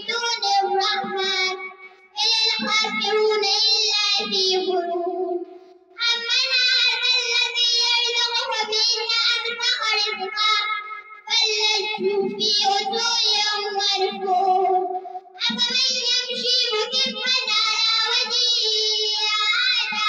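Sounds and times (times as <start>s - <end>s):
girl chanting melodically: 0.0s - 20.0s.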